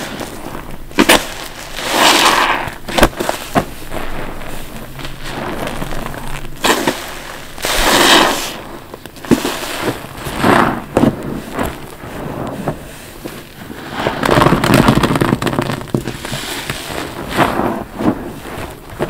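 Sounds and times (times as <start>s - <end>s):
soapy sponge squelching: 0.0s - 14.4s, 15.5s - 19.0s.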